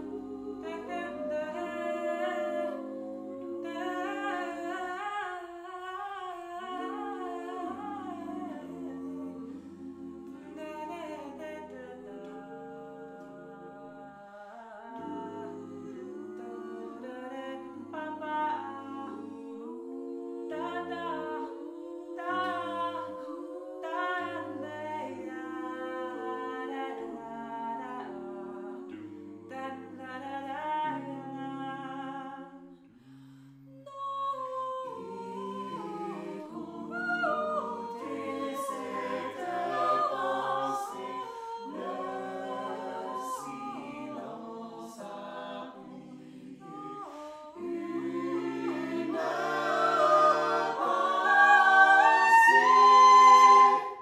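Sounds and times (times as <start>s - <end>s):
a cappella group singing: 0.0s - 54.0s.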